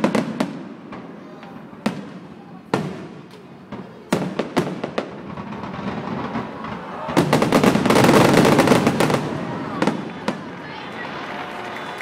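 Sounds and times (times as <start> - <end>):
fireworks exploding: 0.0 - 12.0
fireworks rumble: 0.0 - 12.0.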